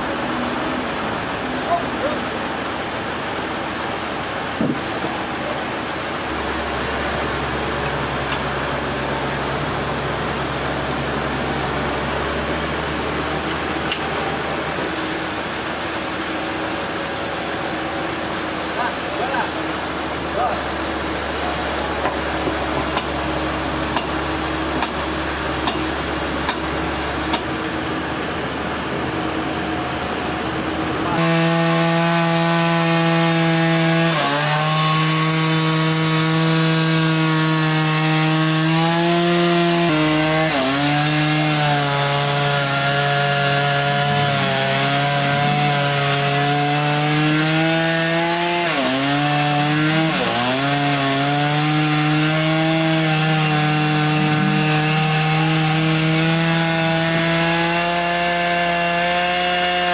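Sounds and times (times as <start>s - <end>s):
sawmill saw cutting log: 0.1s - 28.2s, 29.2s - 59.9s
rough noisy sawing: 1.4s - 28.2s, 29.2s - 59.9s.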